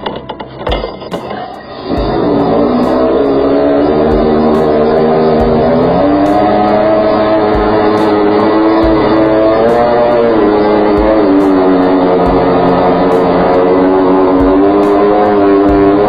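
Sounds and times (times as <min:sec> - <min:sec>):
melody over steady beat: 0:00.0 - 0:16.0.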